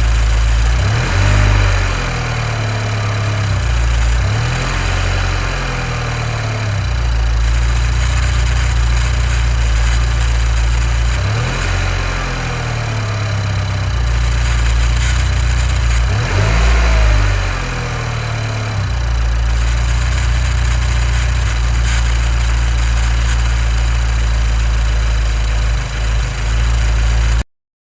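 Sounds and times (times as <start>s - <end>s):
car engine idling and revving: 0.0s - 27.4s
static-like engine noise: 0.0s - 27.4s.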